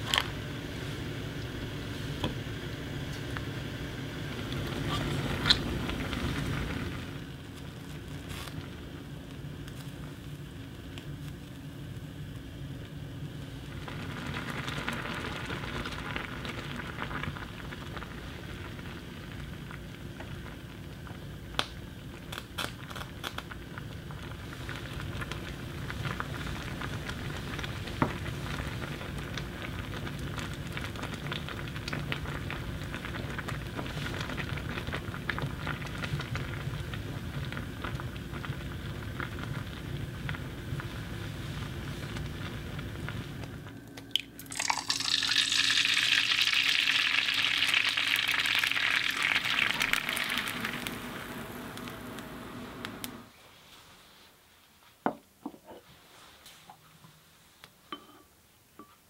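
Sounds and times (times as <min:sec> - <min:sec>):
soup bubbling in pot: 0:00.0 - 0:53.3.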